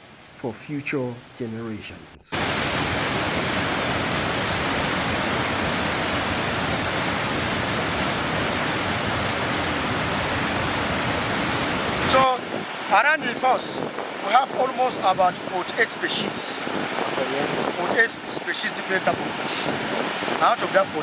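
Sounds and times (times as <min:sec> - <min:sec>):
waterfall rushing: 0:02.3 - 0:21.0.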